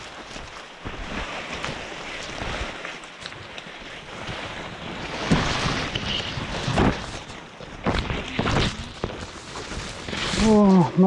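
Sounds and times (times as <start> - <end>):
rain: 0.0 - 11.0.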